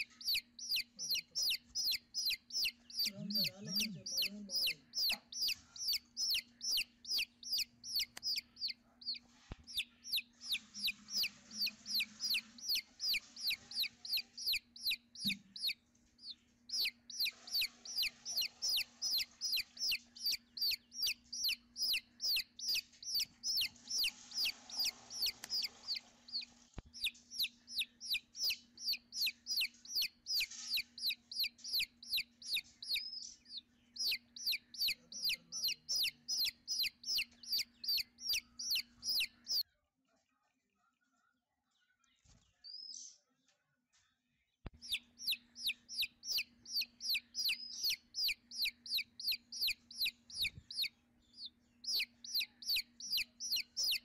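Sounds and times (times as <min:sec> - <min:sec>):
nestling birds begging chirps: 0:00.0 - 0:39.6, 0:44.8 - 0:54.0.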